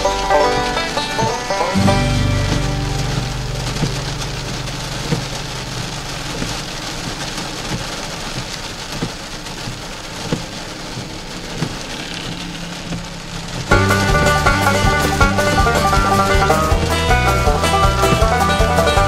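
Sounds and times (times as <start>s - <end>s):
rain on car windshield: 0.0s - 19.0s
single raindrop hits: 0.0s - 19.0s.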